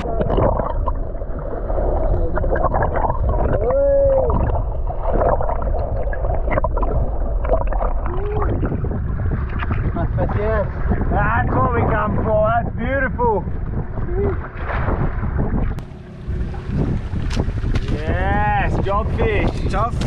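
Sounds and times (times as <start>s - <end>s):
wind and sea rumble: 0.0s - 20.0s.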